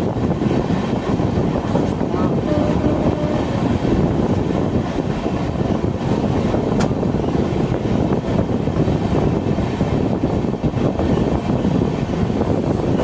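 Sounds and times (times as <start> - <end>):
rumble of wheels on rails: 0.0 - 13.0.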